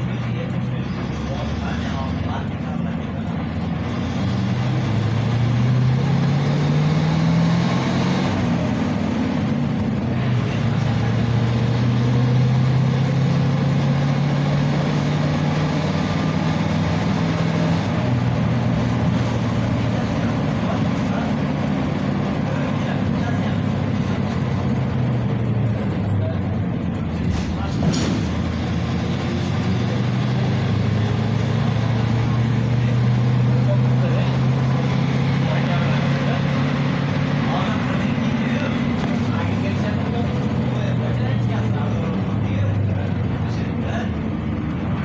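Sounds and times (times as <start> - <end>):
bus engine pulling under load: 0.0 - 45.0.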